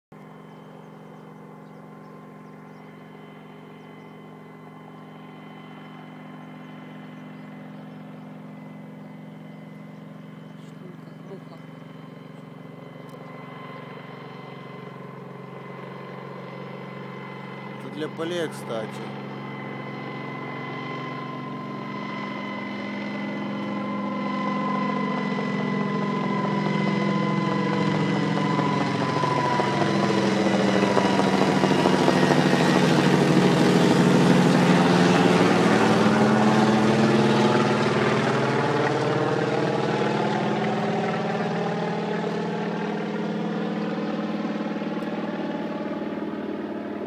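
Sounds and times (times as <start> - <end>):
helicopter flying low overhead: 0.1 - 47.0.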